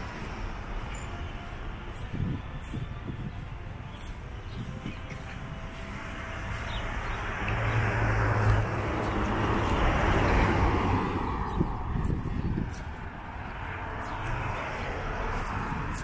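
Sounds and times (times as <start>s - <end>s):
vehicles passing by: 0.0s - 16.0s.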